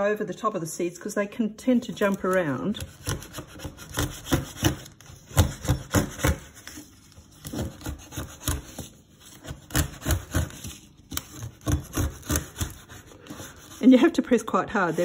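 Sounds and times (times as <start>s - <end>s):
plastic card scraping paper plate: 1.8s - 15.0s.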